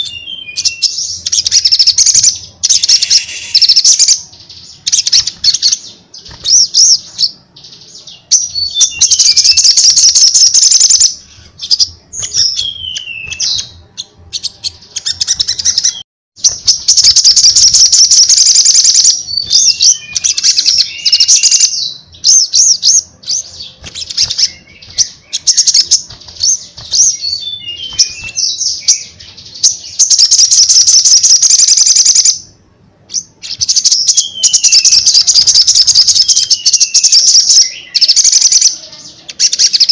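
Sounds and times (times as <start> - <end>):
sunbird singing trills: 0.0 - 32.5, 33.1 - 39.9.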